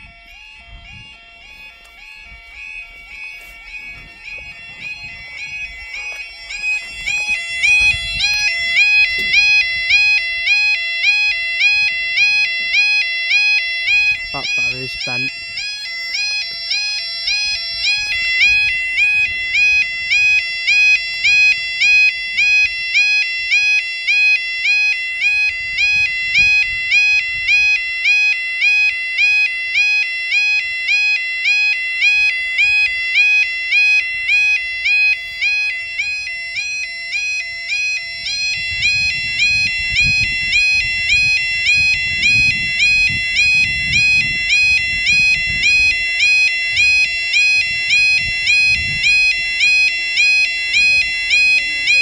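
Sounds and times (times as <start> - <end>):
two-tone electronic warble alarm: 0.0 - 52.0.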